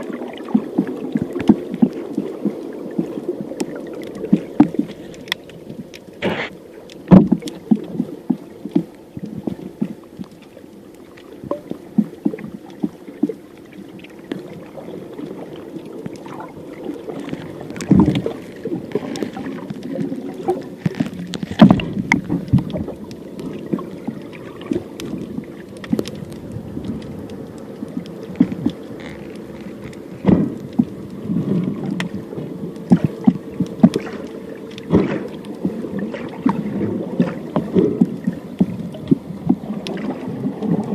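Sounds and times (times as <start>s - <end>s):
muffled underwater drone: 0.0s - 40.9s.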